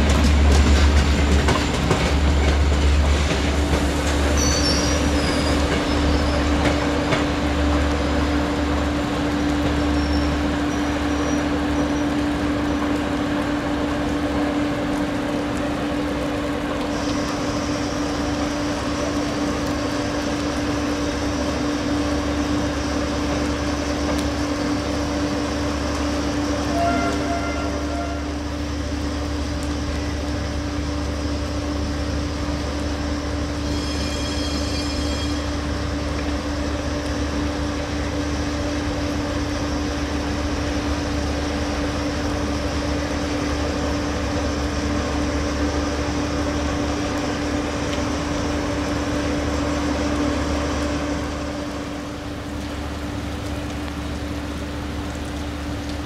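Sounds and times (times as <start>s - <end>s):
electric locomotive hum and rumble: 0.0s - 56.0s.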